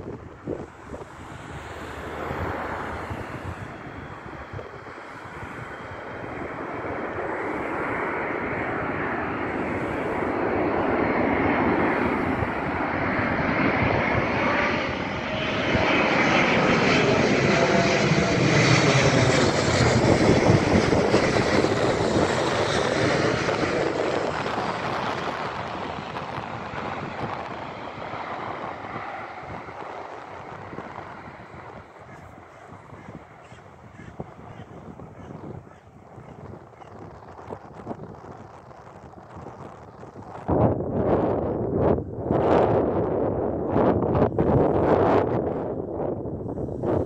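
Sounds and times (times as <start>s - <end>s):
jet plane passing overhead: 0.0s - 47.0s.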